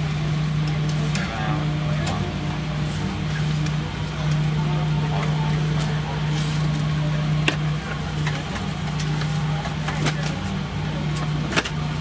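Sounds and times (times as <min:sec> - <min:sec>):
airplane cabin hum: 0:00.0 - 0:12.0.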